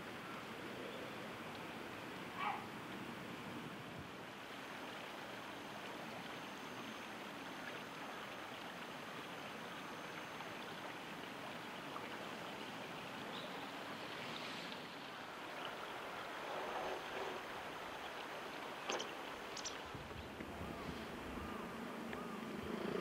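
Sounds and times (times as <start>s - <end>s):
river water rushing: 4.1s - 23.0s.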